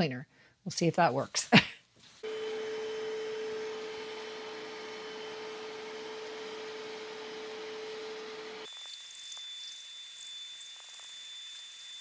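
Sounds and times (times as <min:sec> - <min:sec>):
carpet cleaner whine and suction: 0:02.2 - 0:12.0.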